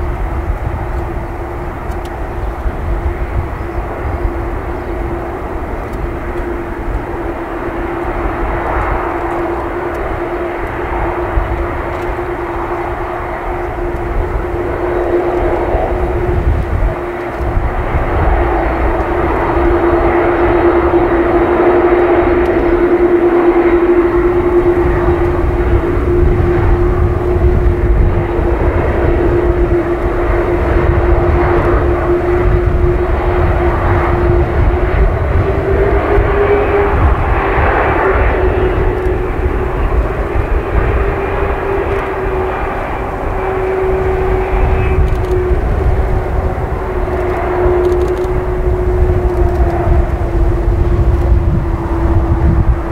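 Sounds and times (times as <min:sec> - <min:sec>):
jet engines whining and rumbling: 0:00.0 - 0:52.9.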